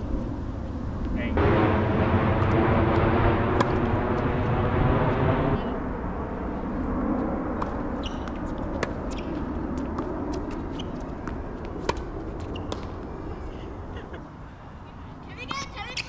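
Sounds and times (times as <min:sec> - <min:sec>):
low outdoor rumble: 0:00.0 - 0:15.5.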